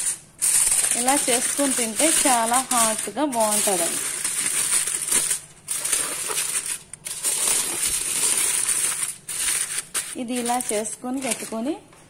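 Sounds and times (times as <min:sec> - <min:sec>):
aluminium foil crinkling: 0:00.0 - 0:11.8.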